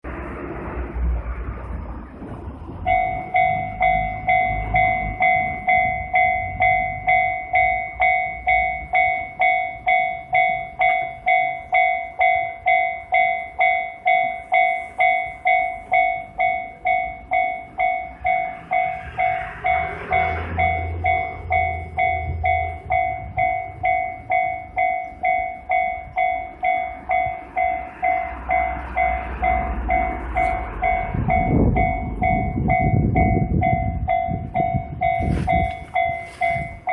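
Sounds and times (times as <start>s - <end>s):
train passing rumble: 0.0s - 36.9s
railroad crossing bell dinging: 2.7s - 36.9s.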